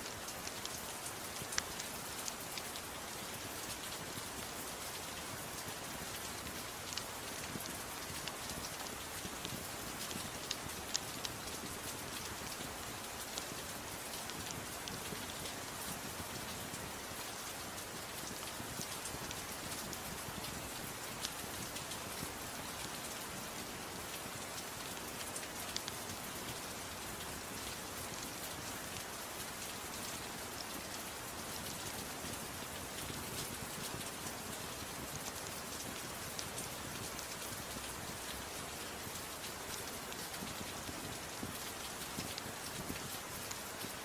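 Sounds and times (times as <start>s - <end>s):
faint fireplace crackle: 0.0s - 44.0s
gentle rain hissing: 0.0s - 44.0s.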